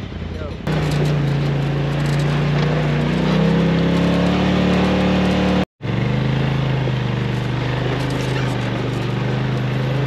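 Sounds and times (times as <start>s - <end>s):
side-by-side engine running: 0.0s - 10.0s.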